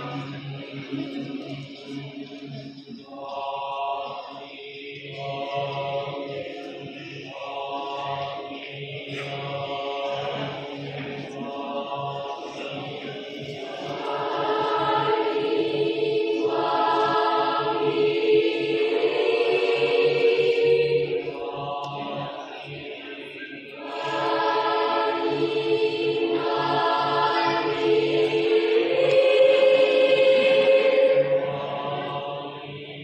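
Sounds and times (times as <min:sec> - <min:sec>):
children's choir singing chords: 0:00.0 - 0:33.0.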